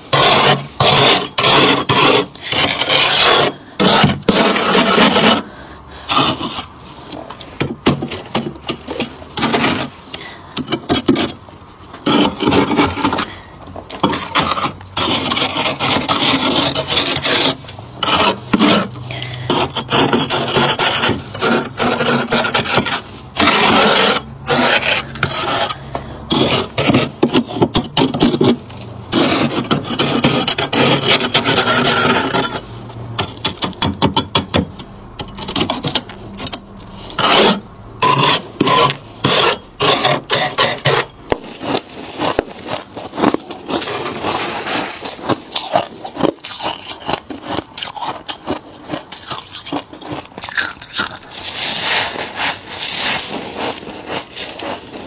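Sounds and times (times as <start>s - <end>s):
metal scraper rasping over frost: 0.0s - 55.0s.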